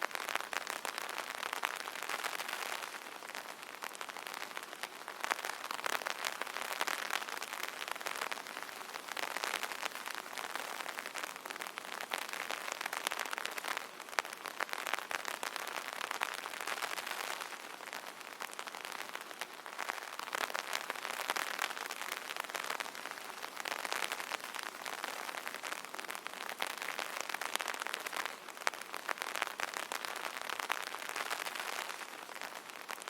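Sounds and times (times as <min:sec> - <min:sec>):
rain pattering on an umbrella: 0:00.0 - 0:33.0.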